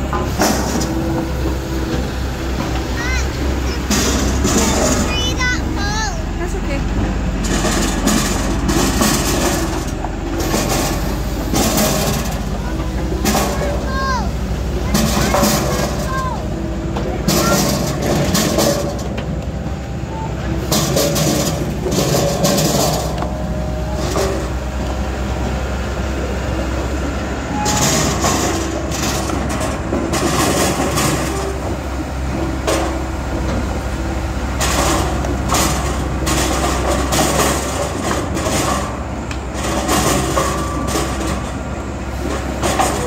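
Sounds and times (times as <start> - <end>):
firewood processor humming: 0.0 - 43.0
logs clattering down metal chute: 0.0 - 43.0.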